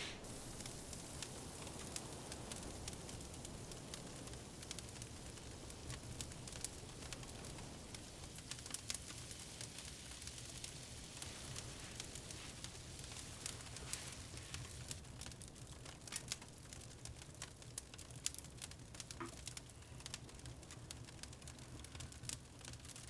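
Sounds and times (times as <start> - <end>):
low steady hiss: 0.0 - 23.0
wood fire crackling: 0.0 - 23.0.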